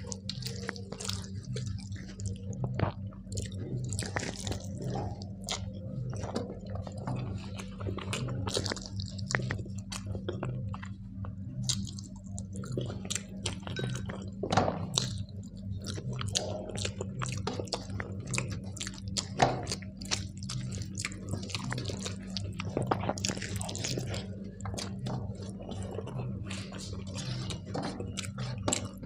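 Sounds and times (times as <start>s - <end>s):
person chewing and smacking food: 0.0s - 29.0s
steady low hum: 0.0s - 29.0s.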